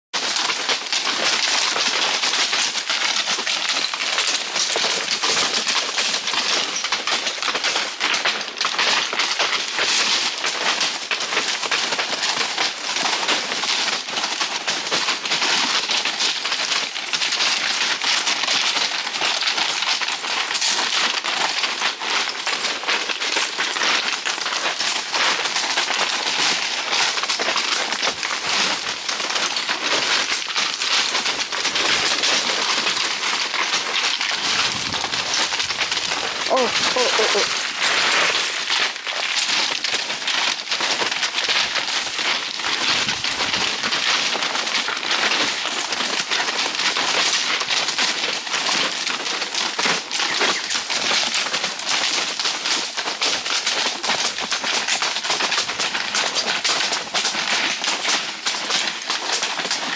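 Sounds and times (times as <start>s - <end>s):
horse hooves on loose stones: 0.1s - 59.9s.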